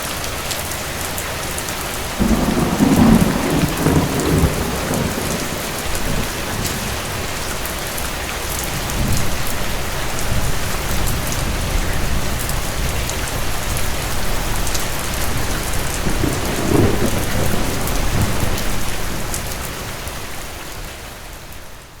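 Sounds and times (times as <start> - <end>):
steady rain: 0.0 - 22.0
distant thunder rumbling: 2.2 - 9.8, 10.4 - 20.6.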